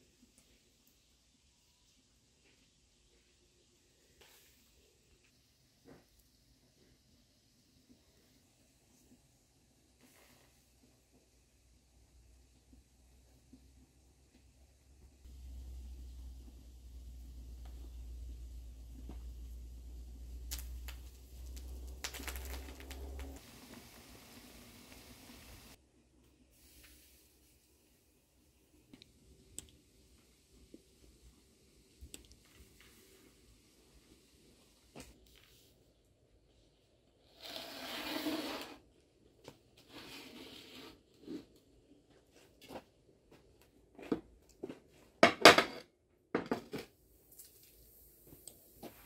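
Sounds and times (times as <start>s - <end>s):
faint steady hiss: 0.0s - 37.7s, 46.7s - 49.0s.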